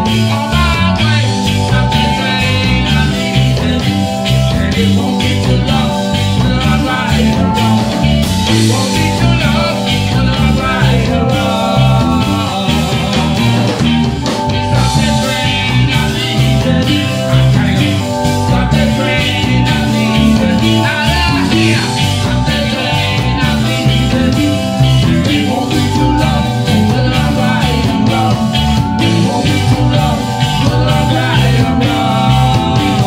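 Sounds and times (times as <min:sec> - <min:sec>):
person singing: 0:00.0 - 0:33.0
reggae band playing: 0:00.0 - 0:33.0.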